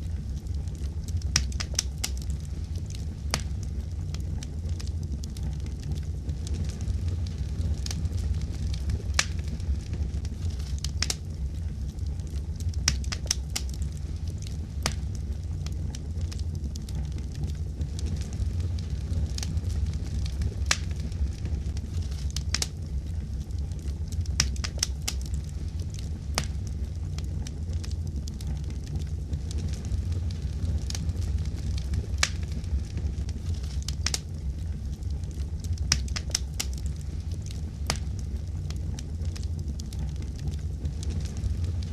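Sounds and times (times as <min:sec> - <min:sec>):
fire crackling and popping: 0:00.0 - 0:41.9
low rumble: 0:00.0 - 0:41.9.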